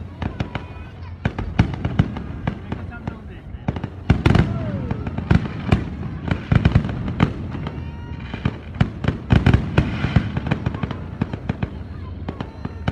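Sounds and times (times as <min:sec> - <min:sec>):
fireworks bangs and crackles: 0:00.0 - 0:12.9.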